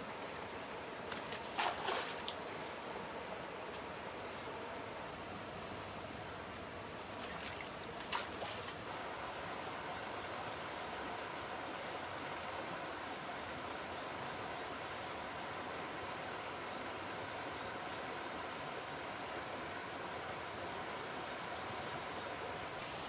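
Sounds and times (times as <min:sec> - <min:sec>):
flowing water: 0:00.0 - 0:23.0.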